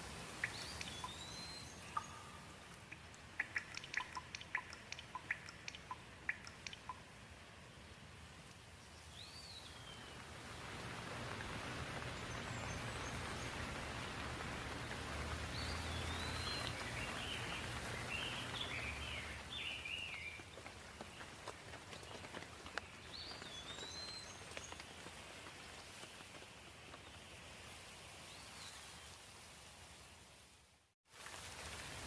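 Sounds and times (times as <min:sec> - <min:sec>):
water drips: 0:00.0 - 0:07.5, 0:08.4 - 0:28.4
rain falling: 0:00.0 - 0:32.0.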